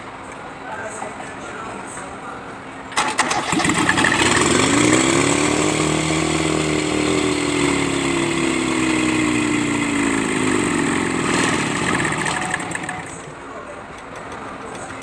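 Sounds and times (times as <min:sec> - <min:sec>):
tractor diesel engine running: 0:02.9 - 0:15.0.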